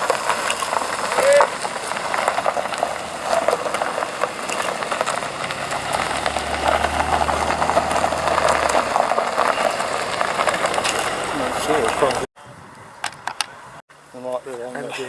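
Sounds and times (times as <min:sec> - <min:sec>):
car engine passing: 0:00.0 - 0:12.3
crackling rattle: 0:00.0 - 0:12.3.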